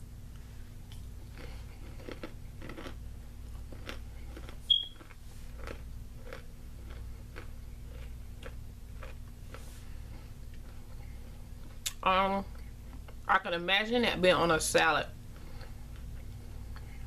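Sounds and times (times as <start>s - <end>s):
granola being chewed: 0.8s - 13.2s, 15.3s - 17.0s.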